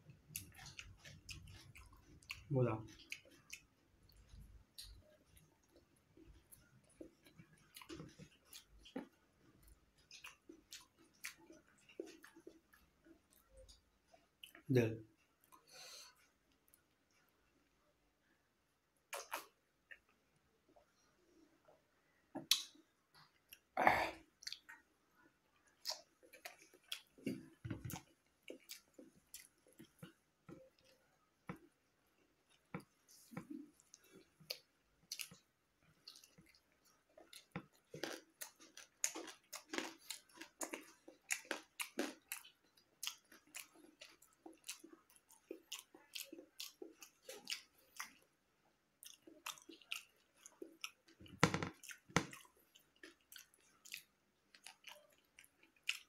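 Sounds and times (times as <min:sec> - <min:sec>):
person chewing wetly: 0:00.0 - 0:17.3, 0:19.1 - 0:20.2, 0:22.4 - 0:24.8, 0:25.5 - 0:56.0.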